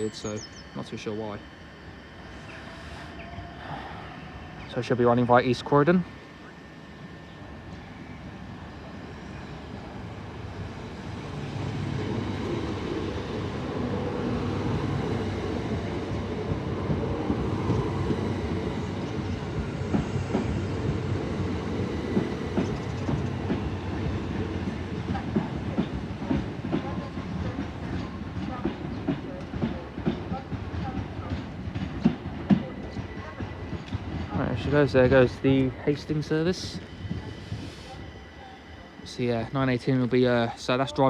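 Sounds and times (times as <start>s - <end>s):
passenger train rumbling: 0.0s - 41.0s.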